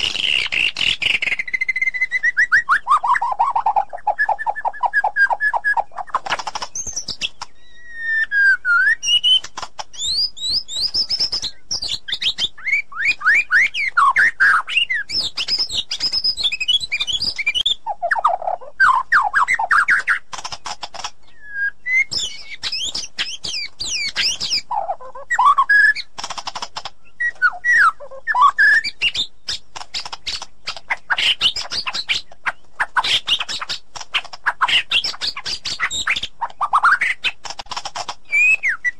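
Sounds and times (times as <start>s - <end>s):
bird singing whistles and trills: 0.0s - 26.2s, 26.8s - 37.4s, 38.2s - 38.9s.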